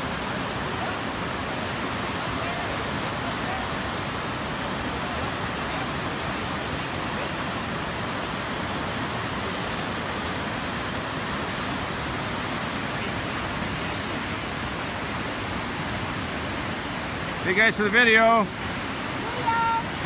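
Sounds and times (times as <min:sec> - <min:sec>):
whitewater rapids rushing: 0:00.0 - 0:20.0.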